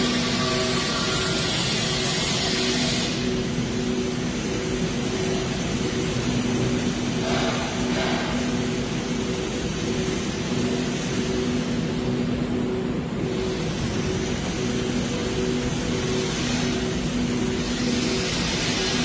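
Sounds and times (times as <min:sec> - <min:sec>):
engine humming steadily: 0:00.0 - 0:19.0.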